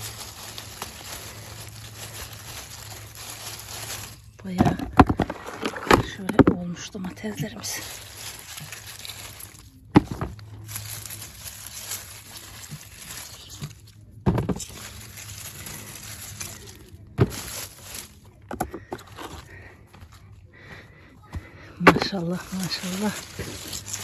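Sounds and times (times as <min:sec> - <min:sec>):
rustling of plants: 0:00.0 - 0:24.0.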